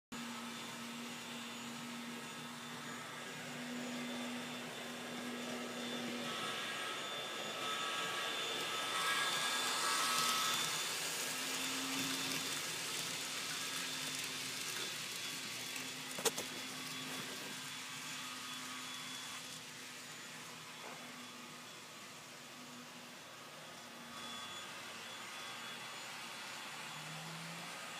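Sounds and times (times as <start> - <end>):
model train motor and wheels whirring: 0.2 - 27.9.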